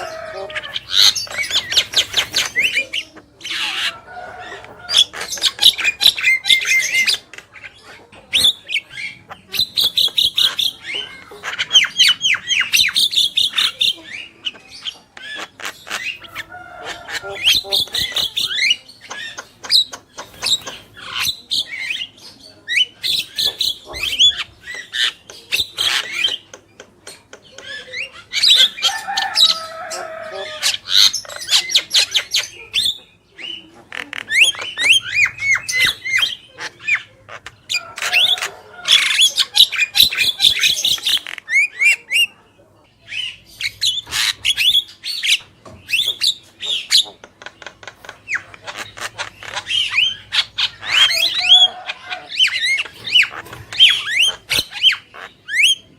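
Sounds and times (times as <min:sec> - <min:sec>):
birds calling with clicks and squawks: 0:00.0 - 0:55.9.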